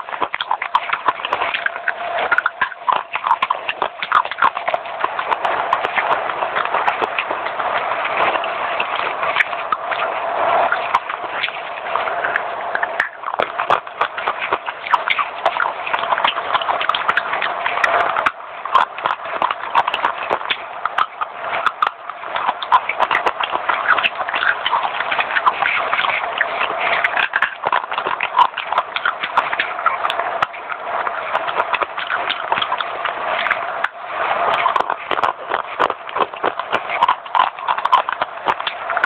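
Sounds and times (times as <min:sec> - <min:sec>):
crunching baked clay: 0:00.0 - 0:39.0.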